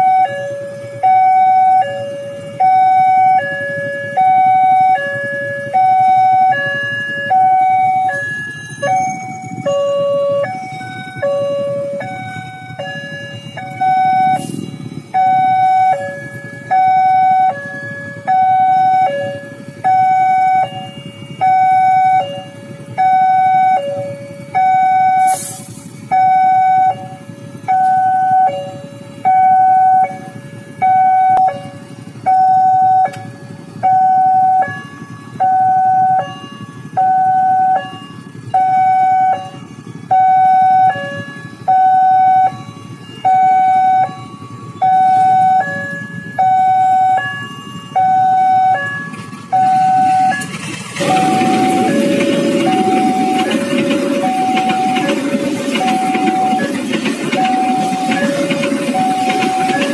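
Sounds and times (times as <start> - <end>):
level-crossing two-tone alarm: 0.0 - 59.9.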